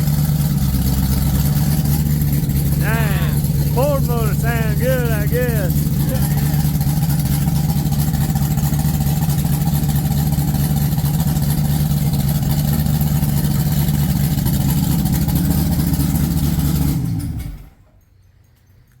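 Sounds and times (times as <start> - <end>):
car engine idling: 0.0 - 17.6.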